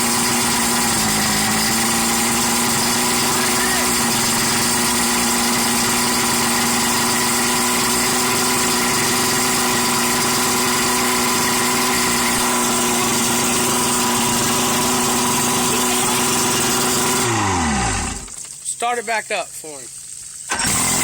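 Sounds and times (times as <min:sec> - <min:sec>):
boat motor running: 0:00.0 - 0:18.4, 0:20.5 - 0:21.0.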